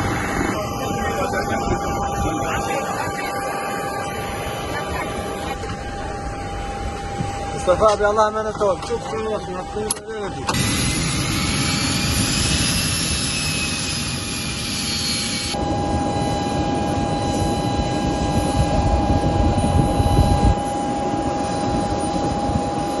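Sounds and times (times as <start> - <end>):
aircraft engines whining: 0.0 - 23.0.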